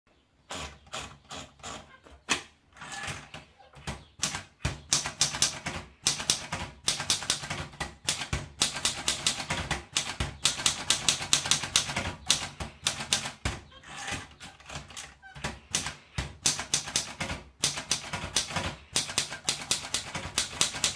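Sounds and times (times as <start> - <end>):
typewriter keystroke clacks: 3.0 - 20.9.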